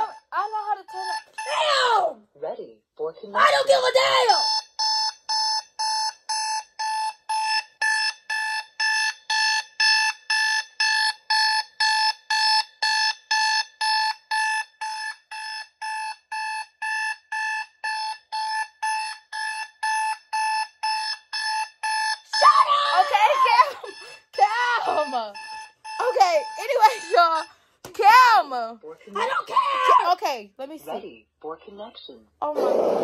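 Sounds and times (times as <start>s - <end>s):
alarm clock beeping: 0.0s - 2.2s, 3.4s - 30.2s.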